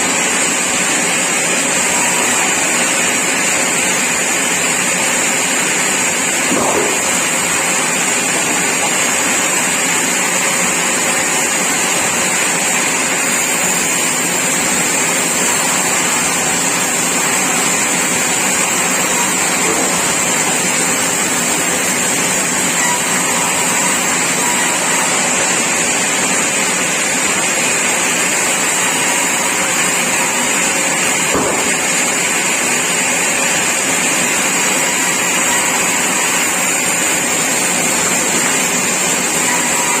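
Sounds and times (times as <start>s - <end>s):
sawmill machinery running: 0.0s - 40.0s.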